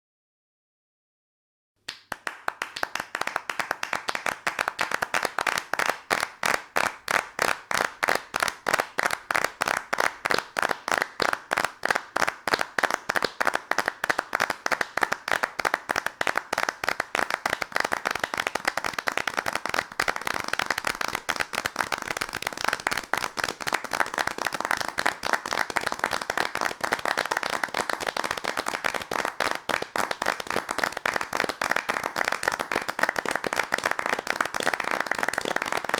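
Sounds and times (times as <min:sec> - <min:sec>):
crowd applauding: 0:01.9 - 0:35.9.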